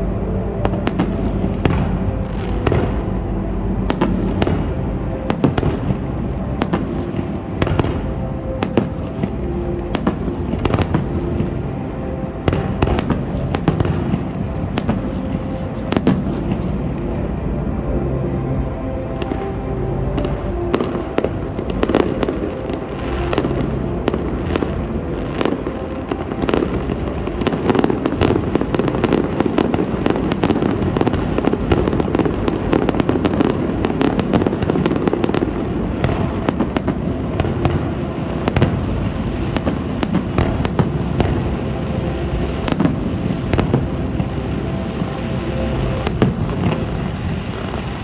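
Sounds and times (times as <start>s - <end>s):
fireworks bursts and crackles: 0.6s - 3.1s, 3.9s - 17.3s, 20.2s - 48.0s.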